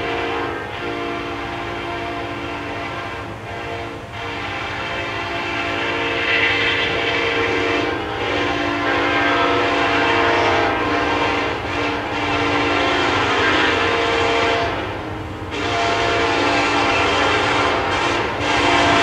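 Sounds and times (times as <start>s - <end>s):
locomotive air horn chord: 0.0s - 19.0s.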